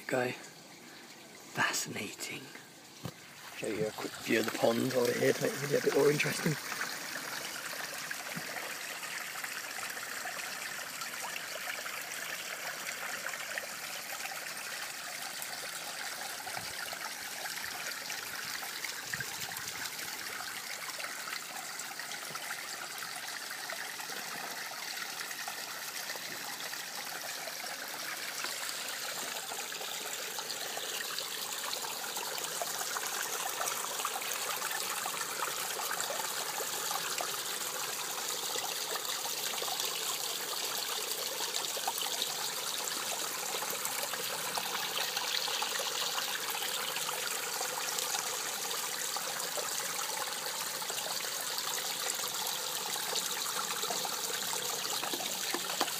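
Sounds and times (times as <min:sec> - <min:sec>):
water trickling into a pond: 0:00.0 - 0:55.9.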